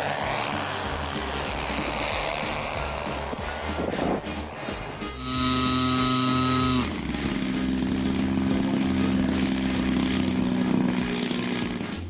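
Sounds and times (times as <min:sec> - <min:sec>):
model plane engine running: 0:00.0 - 0:03.4, 0:05.1 - 0:12.0.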